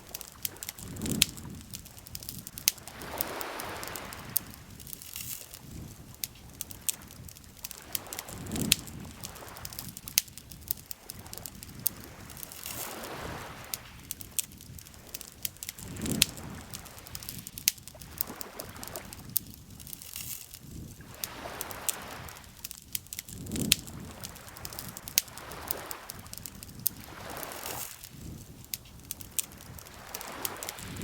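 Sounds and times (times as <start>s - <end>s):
lake water lapping: 0.0s - 19.3s, 21.0s - 22.6s, 23.8s - 31.0s
campfire crackling and popping: 0.0s - 31.0s.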